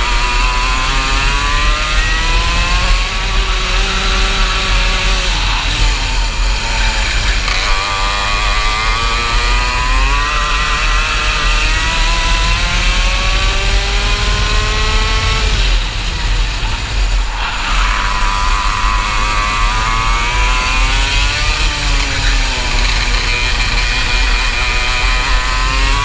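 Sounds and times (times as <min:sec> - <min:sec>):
kart engine accelerating: 0:00.0 - 0:26.0
wind rumble on microphone: 0:00.0 - 0:26.0.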